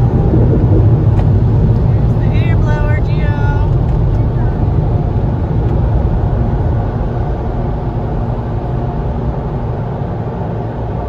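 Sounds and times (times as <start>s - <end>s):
car wash rumbling: 0.0s - 11.0s.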